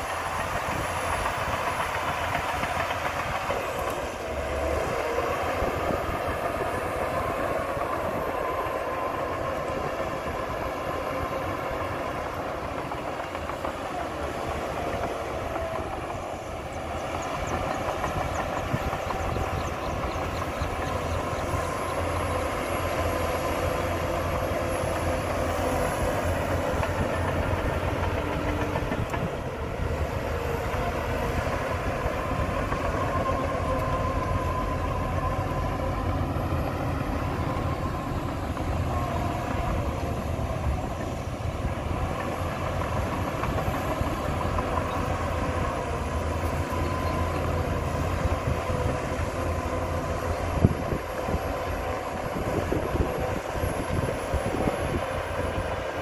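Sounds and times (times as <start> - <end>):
bulldozer diesel engine under load: 0.0 - 56.0
steel crawler tracks clattering: 0.0 - 56.0.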